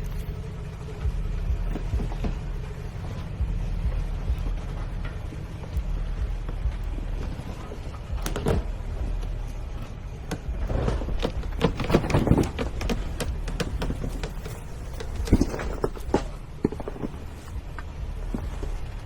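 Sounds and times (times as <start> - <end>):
low engine rumble: 0.0 - 19.0
truck knocking over rock: 1.0 - 19.0.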